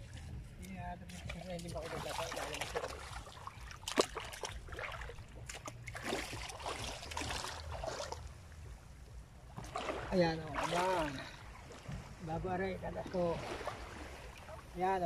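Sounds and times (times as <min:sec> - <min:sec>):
sea water splashing: 0:00.0 - 0:15.0.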